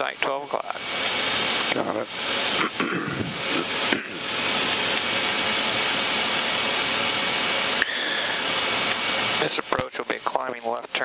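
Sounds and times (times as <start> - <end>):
jet cockpit airflow and engine drone: 0.0 - 11.0.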